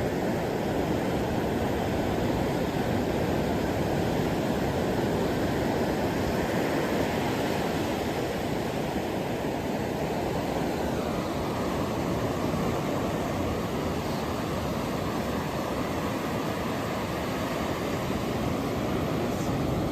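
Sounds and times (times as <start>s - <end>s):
ocean surf: 0.0s - 19.9s.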